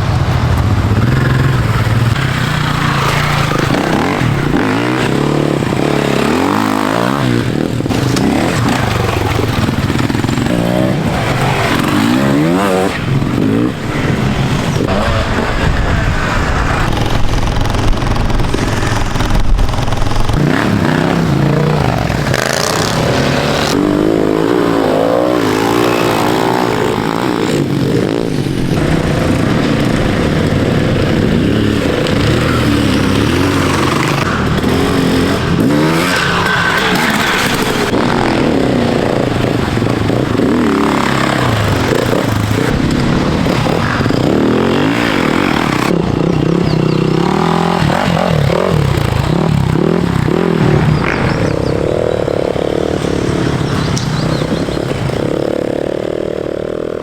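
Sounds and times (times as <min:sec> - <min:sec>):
off-road motorcycle engines revving: 0:00.0 - 0:57.0.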